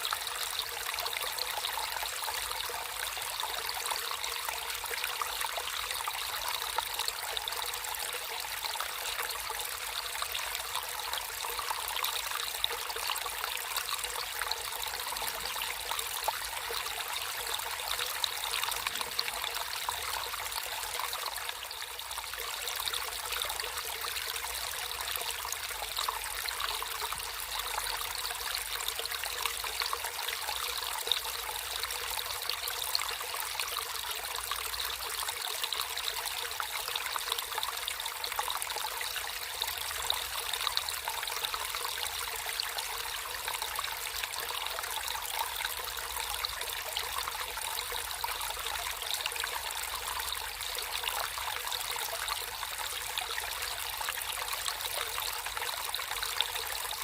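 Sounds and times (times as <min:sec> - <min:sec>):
water trickling over stones: 0:00.0 - 0:57.0.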